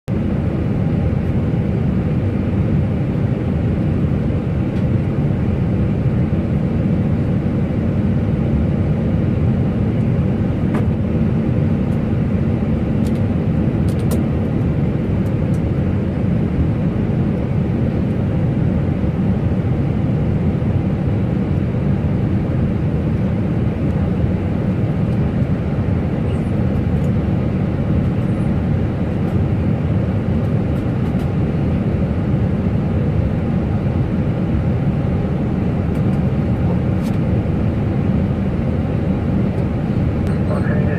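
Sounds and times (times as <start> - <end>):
jet engine rumble in cockpit: 0.1 - 40.9.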